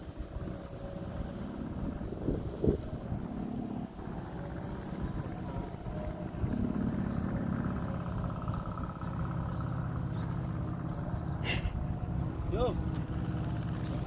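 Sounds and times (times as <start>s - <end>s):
kite droning in wind: 0.0s - 13.5s
wind rumbling on microphone: 0.0s - 14.0s.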